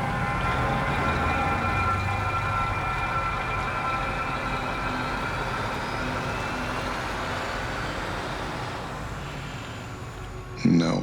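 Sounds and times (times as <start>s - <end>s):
high held tones: 0.0s - 10.6s
vehicle rumbling: 0.0s - 10.8s.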